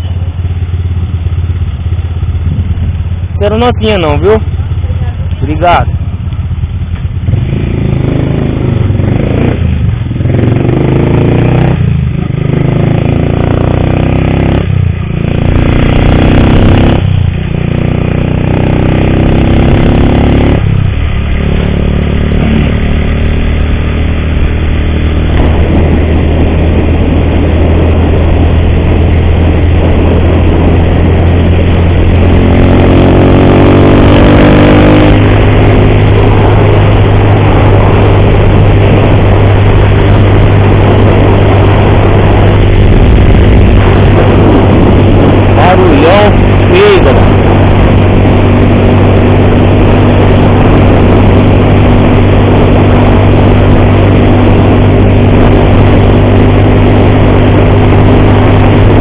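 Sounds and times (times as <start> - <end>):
loud mechanical engine noise: 0.0 - 59.0
motorcycle engine accelerating: 0.0 - 59.0.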